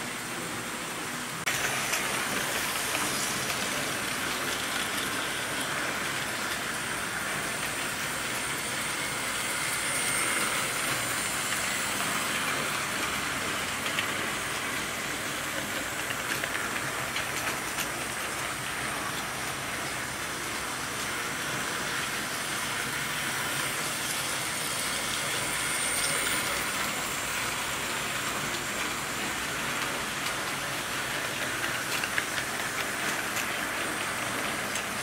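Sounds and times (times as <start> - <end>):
model trains whirring on rails: 0.0 - 35.0.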